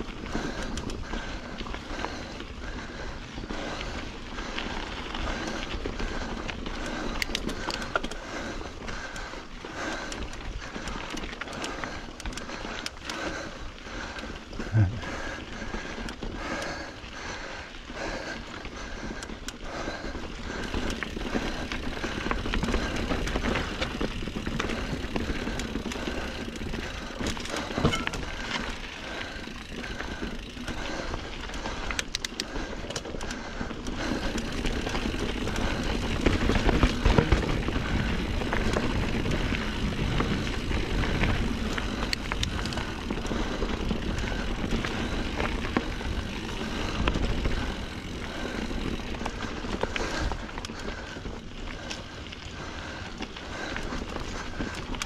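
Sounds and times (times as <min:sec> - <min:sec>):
bike rattling clicks: 0:00.0 - 0:55.0
bike tyres on dirt trail: 0:00.0 - 0:55.0.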